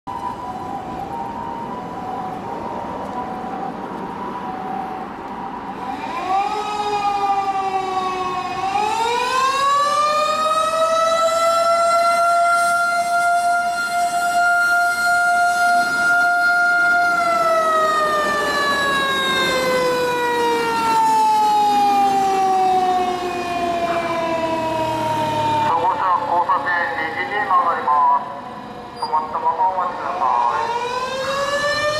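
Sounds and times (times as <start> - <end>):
fire engine siren wailing: 0.1 - 31.9.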